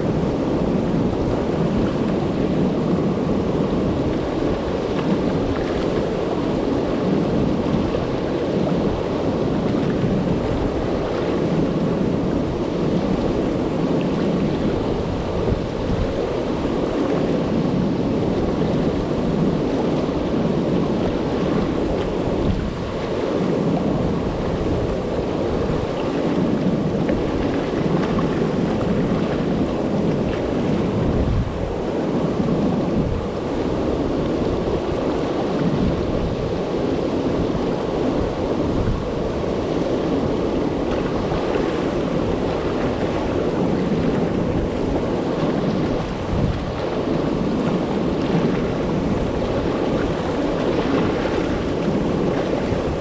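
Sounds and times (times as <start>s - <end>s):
river water rushing over dam: 0.0s - 53.0s.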